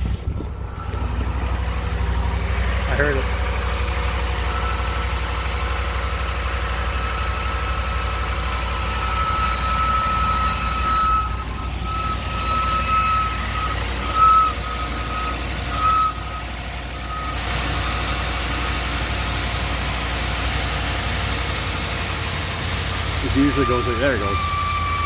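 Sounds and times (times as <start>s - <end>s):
engine idling: 0.0s - 25.0s
high-pitched belt squeal: 0.0s - 25.0s.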